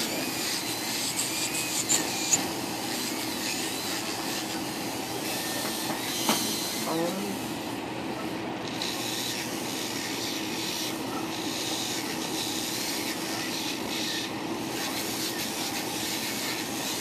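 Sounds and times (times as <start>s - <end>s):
electric nail file grinding: 0.0s - 17.0s.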